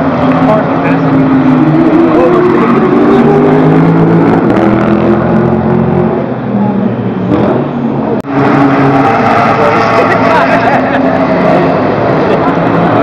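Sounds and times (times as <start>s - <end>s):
sports car engine passing: 0.0s - 13.0s.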